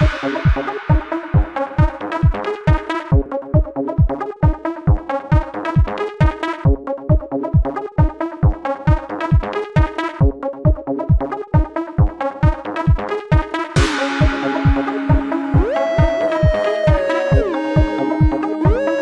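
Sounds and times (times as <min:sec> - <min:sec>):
kick drum: 0:00.0 - 0:19.0
synthesizer chords: 0:00.0 - 0:19.0.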